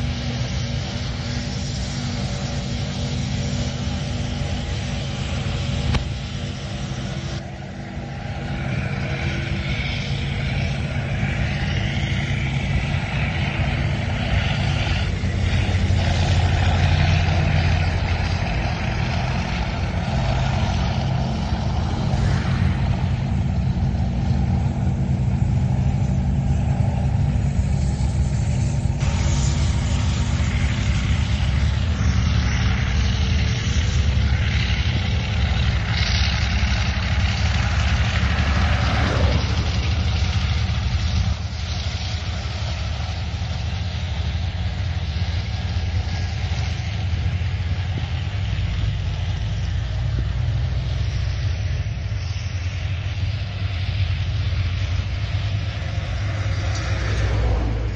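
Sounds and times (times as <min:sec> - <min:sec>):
tank diesel engines running: 0:00.0 - 0:57.9.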